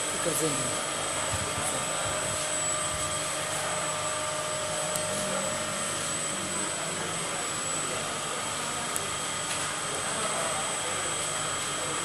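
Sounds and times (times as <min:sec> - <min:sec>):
electric motor whirring hum: 0:00.0 - 0:11.8
high motor whine: 0:00.0 - 0:12.0.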